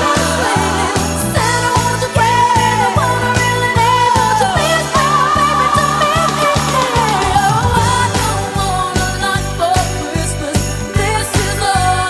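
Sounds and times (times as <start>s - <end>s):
christmas pop music: 0.0s - 12.0s
sleigh bells shaking: 0.0s - 12.0s.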